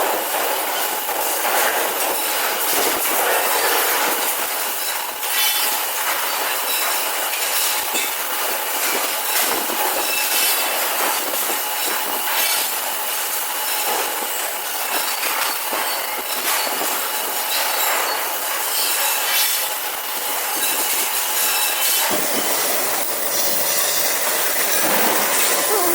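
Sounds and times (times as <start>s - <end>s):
welding arc crackling: 0.0s - 25.9s.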